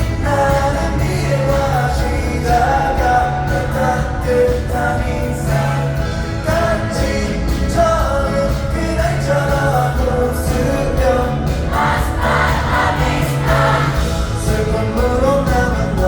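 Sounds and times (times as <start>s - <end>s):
live pop song over sound system: 0.0s - 16.0s.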